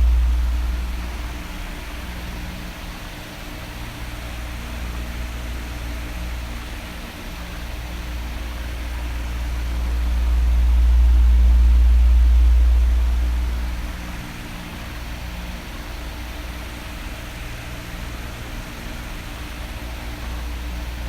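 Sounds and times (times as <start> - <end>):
electric fan running: 0.0 - 21.0.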